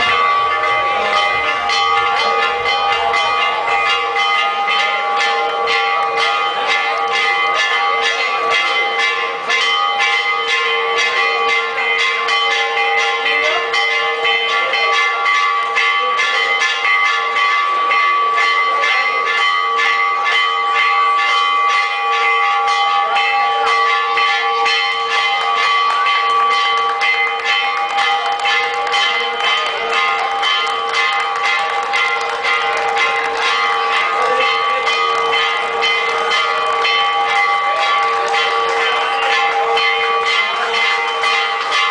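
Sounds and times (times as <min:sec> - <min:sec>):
church bells pealing: 0:00.0 - 0:41.9.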